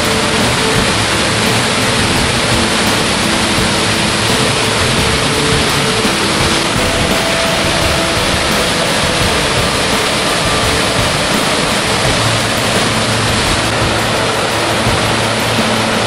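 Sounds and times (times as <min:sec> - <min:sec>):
faint music: 0:00.0 - 0:16.0
waterfall rushing: 0:00.0 - 0:16.0.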